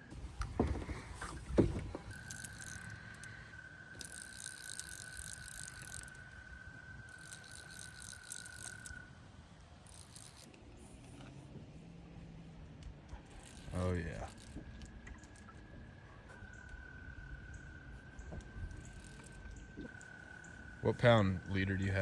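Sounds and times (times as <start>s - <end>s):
fishing reel drag whine and clicking: 0.4s - 9.2s, 9.8s - 10.6s, 13.1s - 15.6s, 16.4s - 22.0s.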